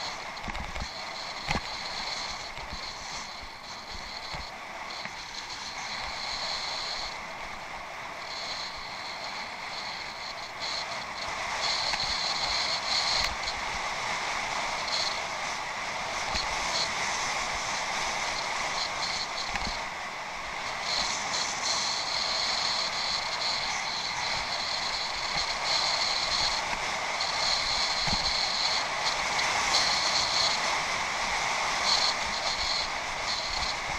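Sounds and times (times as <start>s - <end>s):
high hiss: 0.0s - 33.9s.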